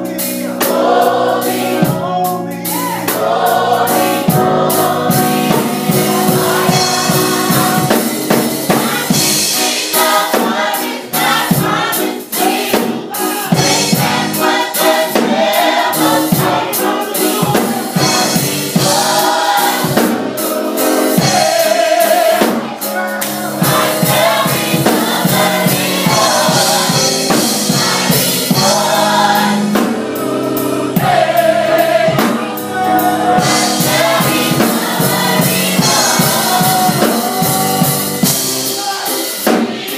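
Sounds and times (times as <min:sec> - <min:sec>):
choir singing in harmony: 0:00.0 - 0:39.9
drum kit: 0:00.0 - 0:39.9.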